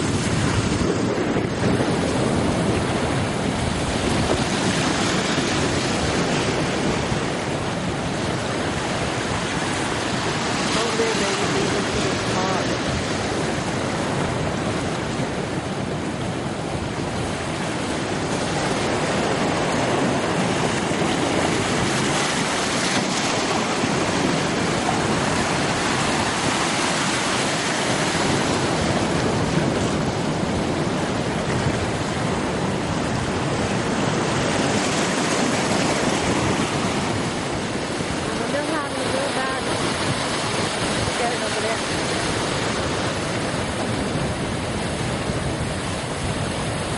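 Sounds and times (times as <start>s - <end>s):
ocean surf breaking on rocks: 0.0s - 46.9s.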